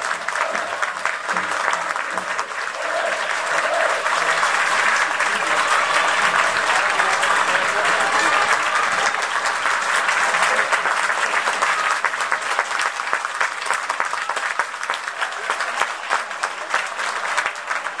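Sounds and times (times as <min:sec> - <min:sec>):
crowd clapping: 0:00.0 - 0:18.0
crowd voices: 0:00.0 - 0:18.0.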